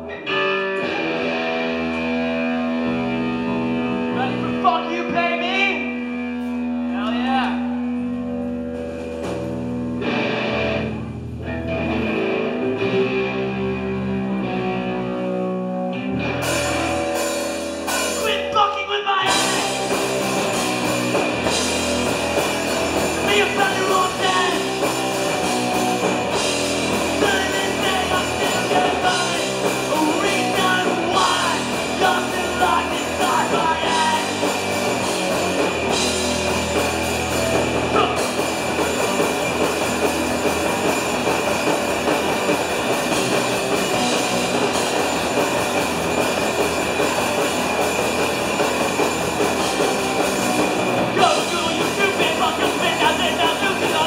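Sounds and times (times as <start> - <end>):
drums: 0.0 - 54.0
electric guitars ringing: 0.0 - 54.0
punk rock band with singing: 0.0 - 54.0.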